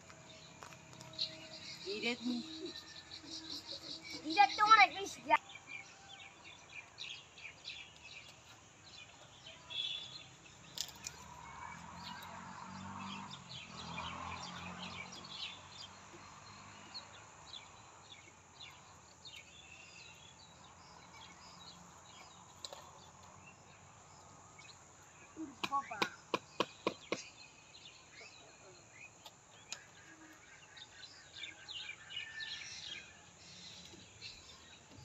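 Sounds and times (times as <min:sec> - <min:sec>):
birds chirping: 0:00.0 - 0:35.0
faint outdoor background noise: 0:00.0 - 0:35.0.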